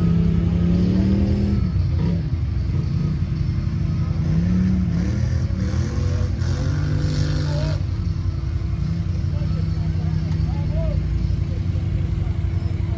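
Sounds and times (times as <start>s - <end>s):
vehicle engine revving: 0.0s - 12.9s.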